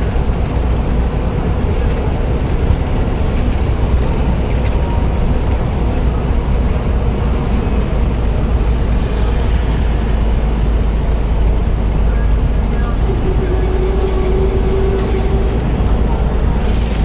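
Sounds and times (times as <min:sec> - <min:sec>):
vehicle road noise: 0:00.0 - 0:17.0
wind buffeting microphone: 0:00.0 - 0:17.0.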